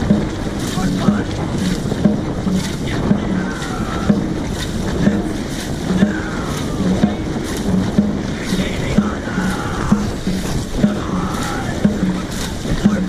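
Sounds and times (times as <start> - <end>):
paddles splashing in water: 0.0 - 13.0
wind noise on microphone: 0.0 - 13.0.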